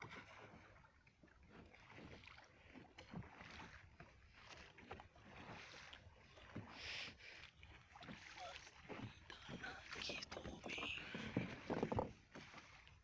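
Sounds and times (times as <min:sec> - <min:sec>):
faint water noise: 0:00.0 - 0:13.0.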